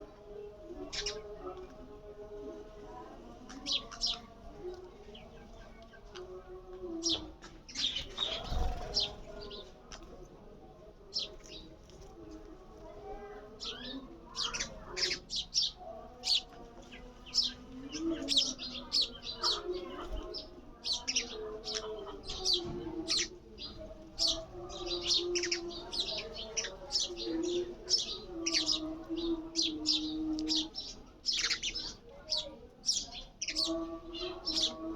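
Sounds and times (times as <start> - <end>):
sparrows chirping: 0.0 - 34.9.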